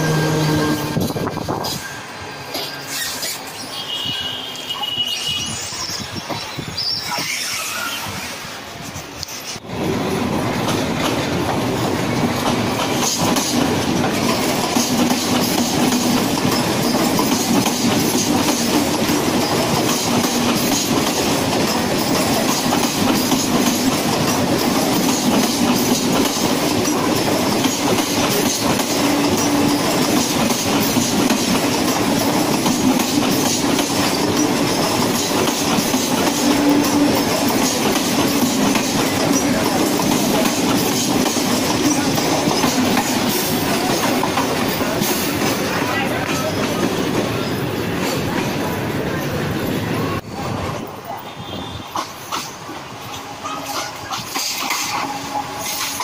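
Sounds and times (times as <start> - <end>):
electric train running past: 0.0 - 56.0
train wheels on rails: 0.0 - 56.0.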